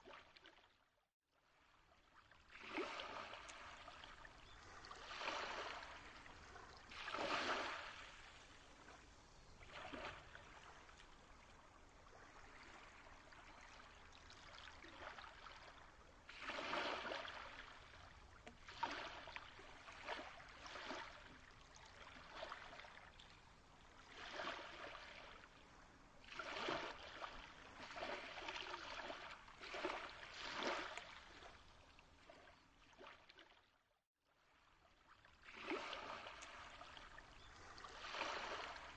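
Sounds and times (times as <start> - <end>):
faint flowing water: 0.0 - 38.9.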